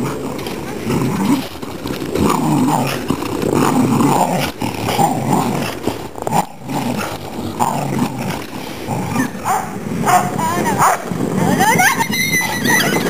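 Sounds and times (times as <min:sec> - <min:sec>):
dogs growling in play: 0:00.0 - 0:11.6.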